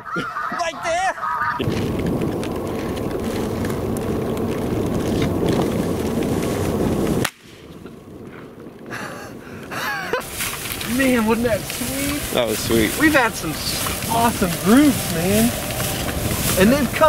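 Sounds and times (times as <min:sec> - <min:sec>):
outdoor hush: 0:00.0 - 0:17.0
low rumbling on microphone: 0:01.6 - 0:17.0.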